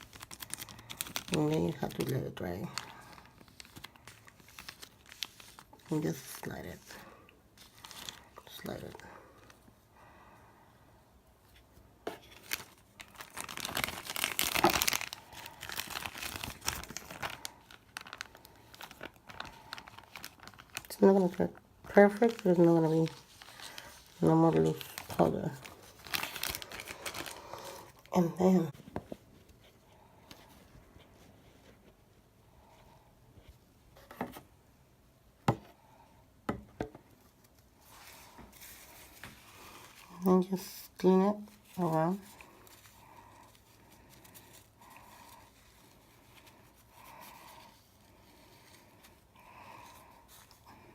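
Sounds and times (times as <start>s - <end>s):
plastic and paper crinkling: 0.0s - 9.7s, 11.5s - 32.0s, 37.2s - 50.9s.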